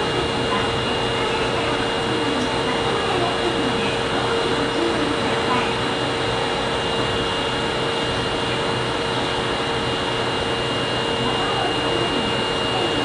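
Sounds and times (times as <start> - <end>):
constant high whine: 0.0 - 13.0
subway train air conditioning hum: 0.0 - 13.0.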